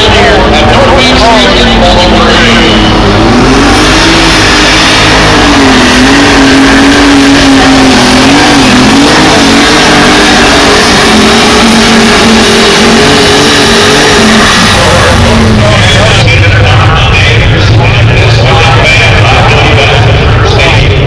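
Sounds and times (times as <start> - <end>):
pulling tractor engine at full throttle: 0.0 - 21.0.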